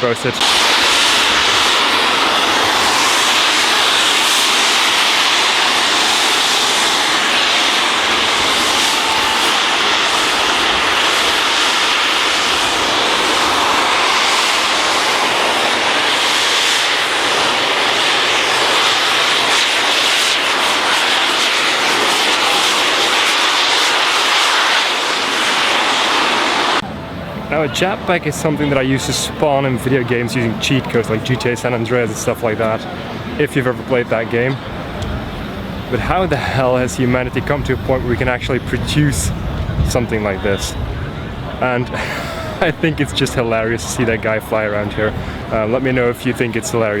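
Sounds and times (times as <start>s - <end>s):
jet engines rushing hiss: 0.0s - 47.0s.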